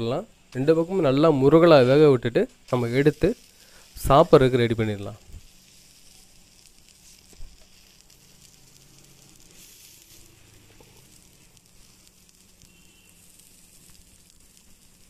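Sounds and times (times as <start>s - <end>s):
oil sizzling on a griddle: 0.0s - 15.0s.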